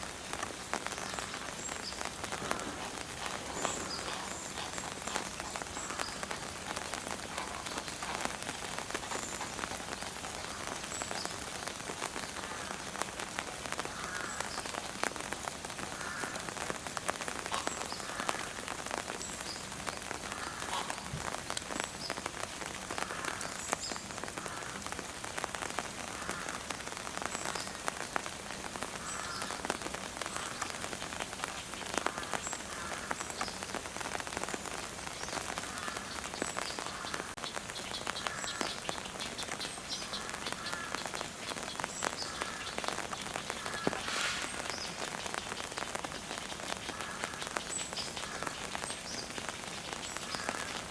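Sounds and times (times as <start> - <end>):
raindrops ticking close by: 0.0 - 50.9
steady rain: 0.0 - 50.9.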